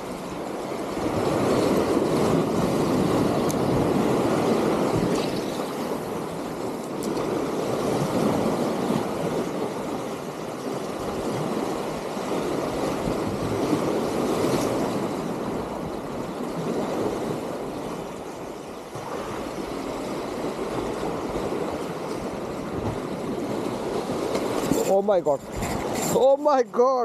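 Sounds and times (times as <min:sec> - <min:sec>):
sea waves washing over breakwater: 0:00.0 - 0:27.0.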